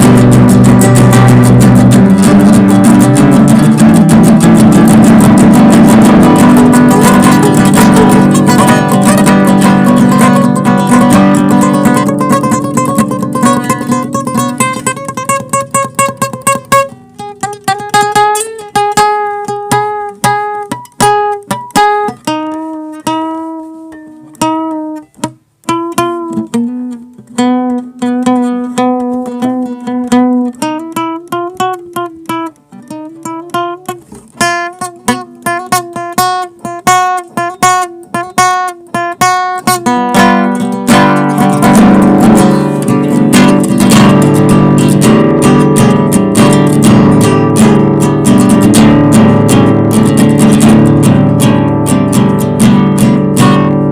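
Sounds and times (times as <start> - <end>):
acoustic guitar melody: 0.0 - 53.9.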